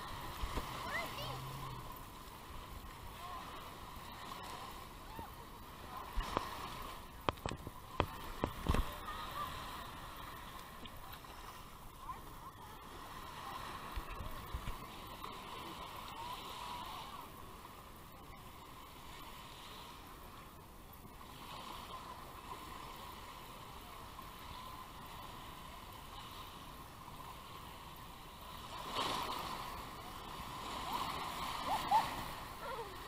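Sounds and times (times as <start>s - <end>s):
shallow surf lapping shoreline: 0.0s - 33.0s.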